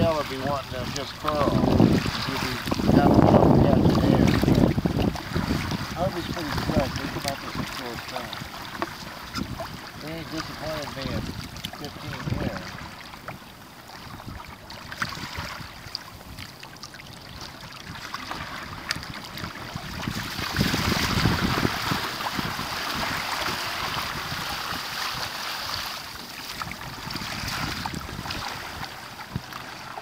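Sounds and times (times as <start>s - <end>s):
wind on microphone: 0.0s - 16.5s, 17.1s - 30.0s
water rushing along a hull: 0.0s - 30.0s.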